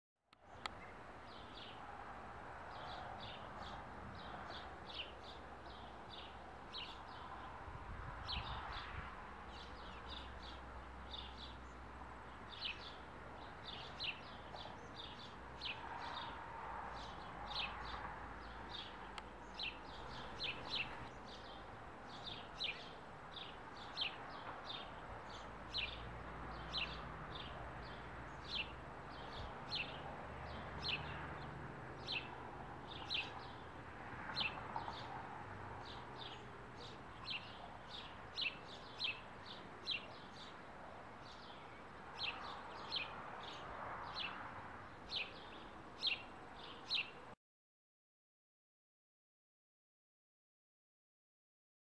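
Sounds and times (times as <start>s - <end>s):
faint background noise: 0.4s - 47.4s.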